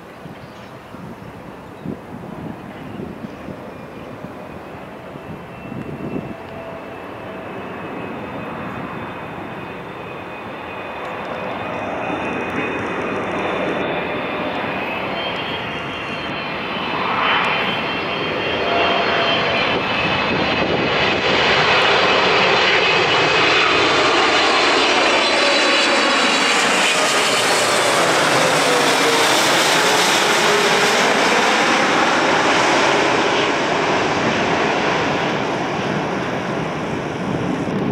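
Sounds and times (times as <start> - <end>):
jet airliner passing overhead: 0.0 - 37.9.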